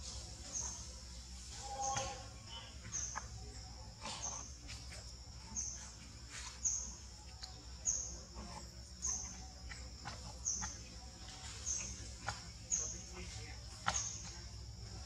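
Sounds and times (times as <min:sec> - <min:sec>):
high insect-like hiss: 0:00.0 - 0:15.0.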